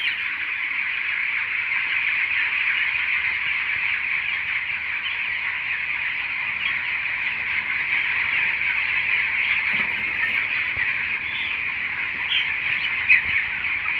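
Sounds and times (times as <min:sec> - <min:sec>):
chicks cheeping: 0:00.0 - 0:13.9.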